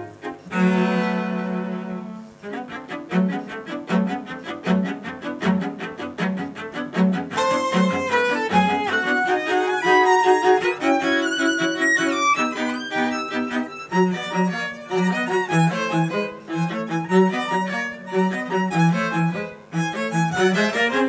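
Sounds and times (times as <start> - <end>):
string quartet playing: 0.0 - 21.0.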